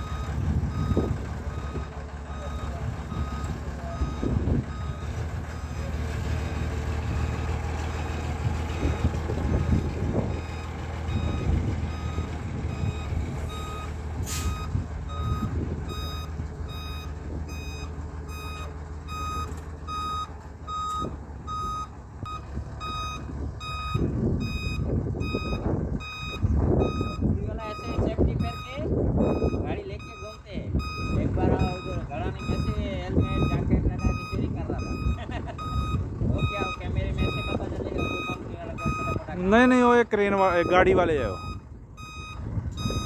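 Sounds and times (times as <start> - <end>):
warning beeper short beeps: 0.0 - 5.8, 9.7 - 43.0
diesel engine humming: 0.0 - 43.0.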